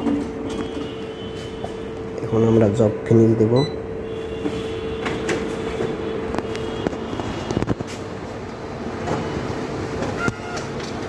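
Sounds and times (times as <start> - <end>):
copier motors humming: 0.0 - 11.0.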